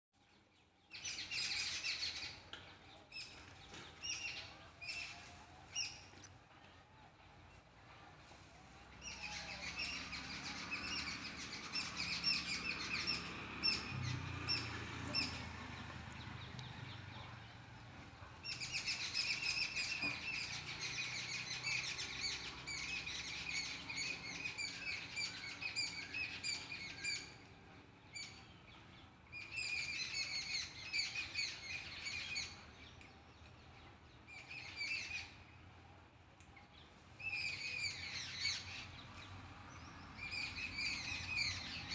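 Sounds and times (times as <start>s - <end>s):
birds chirping: 0.2s - 41.9s.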